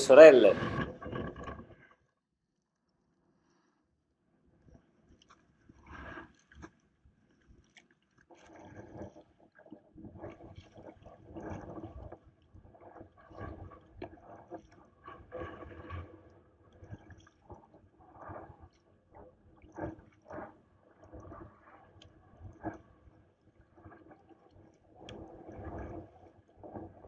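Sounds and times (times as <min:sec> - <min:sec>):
water gurgling along hull: 0:00.0 - 0:02.3, 0:04.8 - 0:27.0
paddle strokes in water: 0:00.1 - 0:02.0, 0:04.7 - 0:27.0.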